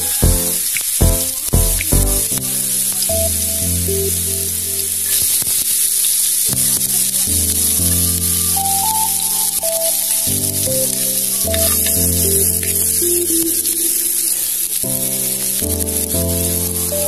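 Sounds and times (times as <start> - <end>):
chill house music: 0.0 - 5.4, 6.9 - 17.0
vegetables sizzling in hot oil: 2.2 - 17.0.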